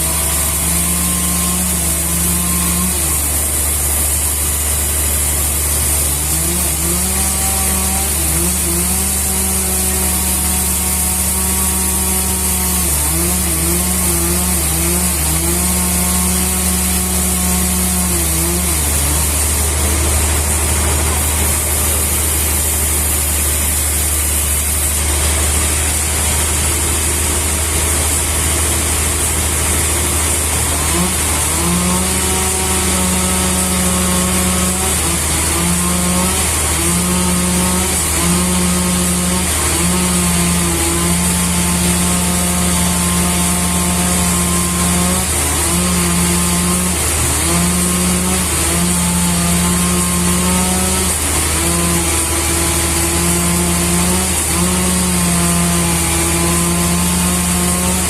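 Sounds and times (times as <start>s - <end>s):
sawmill machinery hum: 0.0s - 58.0s.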